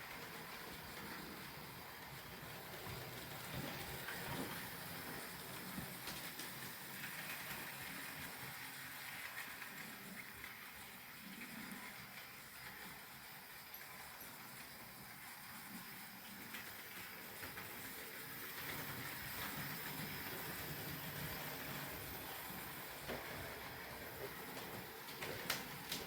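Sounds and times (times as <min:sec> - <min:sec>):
model locomotive rattling: 0:00.0 - 0:26.0.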